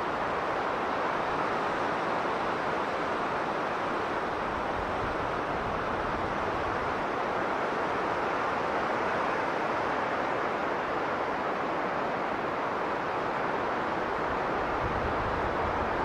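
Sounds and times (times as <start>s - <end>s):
strong blizzard wind: 0.0s - 16.0s.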